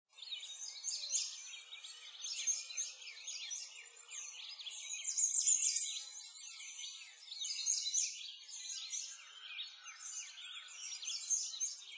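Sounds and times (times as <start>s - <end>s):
small birds chirping: 0.1s - 11.9s.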